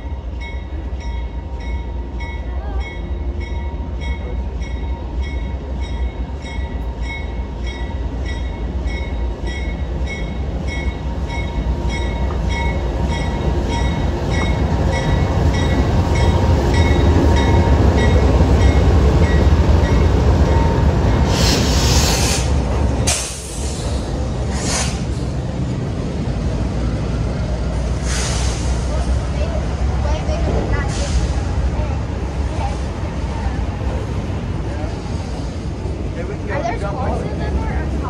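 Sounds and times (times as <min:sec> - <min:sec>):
train rolling past: 0:00.0 - 0:38.0.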